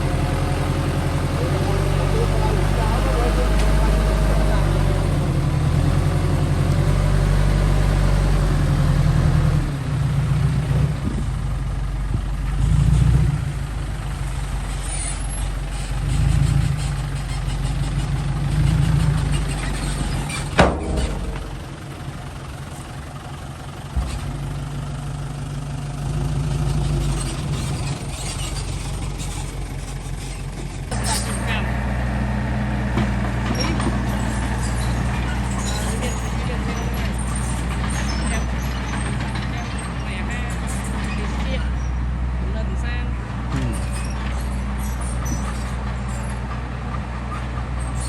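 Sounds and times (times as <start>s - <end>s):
diesel engine of heavy machinery: 0.0s - 48.0s.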